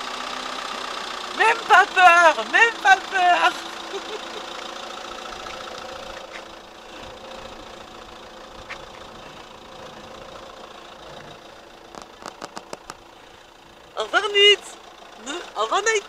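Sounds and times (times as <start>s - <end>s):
motorhome engine idling: 0.0s - 16.0s.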